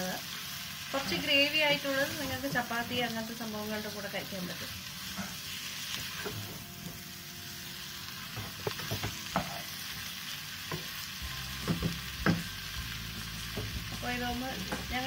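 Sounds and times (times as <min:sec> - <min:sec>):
chicken sizzling in pot: 0:00.0 - 0:15.0.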